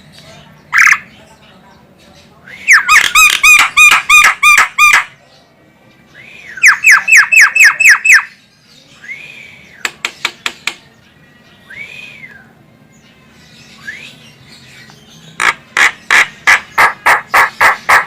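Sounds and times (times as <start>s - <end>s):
myna bird calling: 0.0s - 5.2s, 6.1s - 12.6s, 13.7s - 18.0s.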